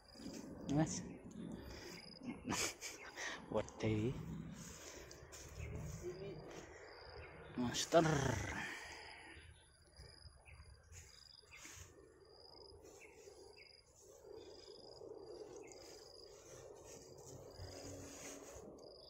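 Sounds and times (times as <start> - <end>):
insect chirping: 0.0 - 19.0
quiet outdoor background noise: 0.0 - 19.0.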